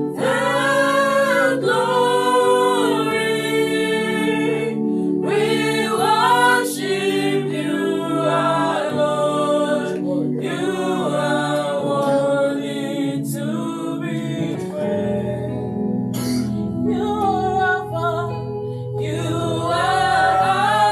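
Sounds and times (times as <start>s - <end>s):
choir singing a cappella: 0.0s - 15.9s, 16.8s - 20.9s.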